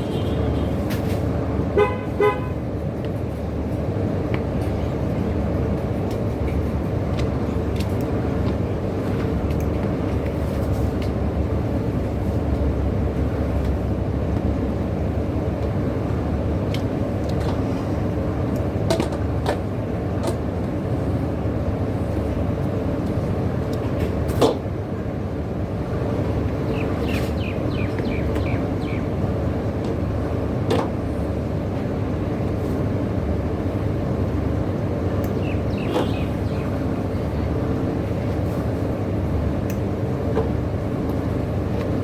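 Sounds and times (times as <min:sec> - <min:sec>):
motor vehicle rumbling: 0:00.0 - 0:42.0.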